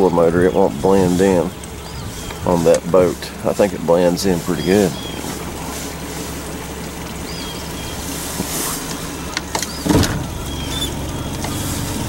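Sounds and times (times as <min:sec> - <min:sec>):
electric trolling motor humming: 0:00.0 - 0:12.0.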